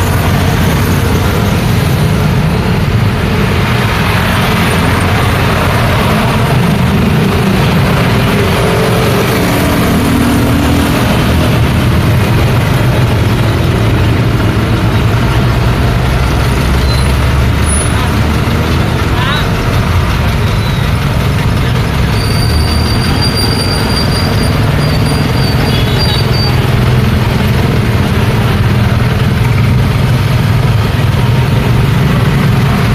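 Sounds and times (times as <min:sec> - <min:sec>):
road traffic passing: 0:00.0 - 0:32.9.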